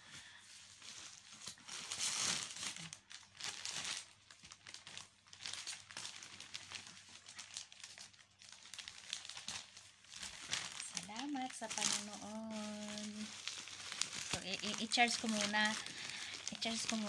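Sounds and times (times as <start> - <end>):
plastic packaging crinkling: 0.2 - 17.0.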